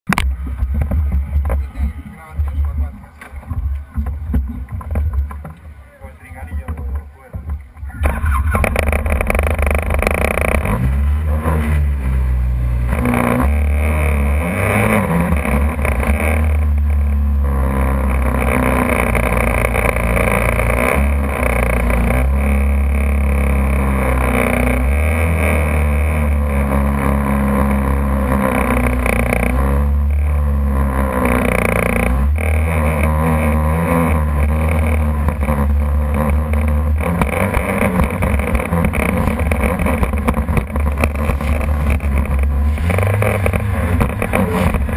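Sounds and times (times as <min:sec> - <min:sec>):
jet ski engine revving: 0:00.1 - 0:44.9.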